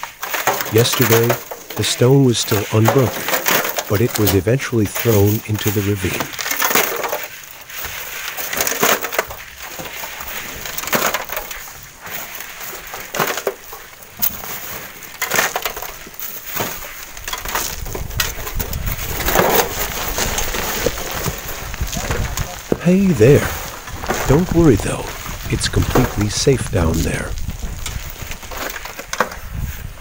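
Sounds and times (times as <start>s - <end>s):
load tipped onto gravel: 0.0s - 30.0s
rock scraping steel wheelbarrow: 0.0s - 30.0s.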